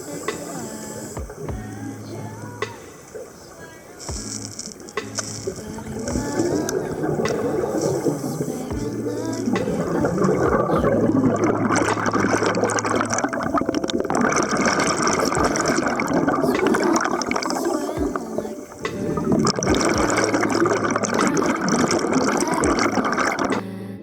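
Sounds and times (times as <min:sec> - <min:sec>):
rushing bubbling water: 0:02.4 - 0:23.6.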